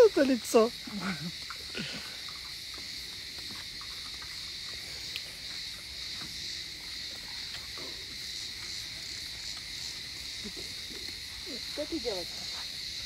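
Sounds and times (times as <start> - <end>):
insect chorus chirring: 0.0 - 13.0.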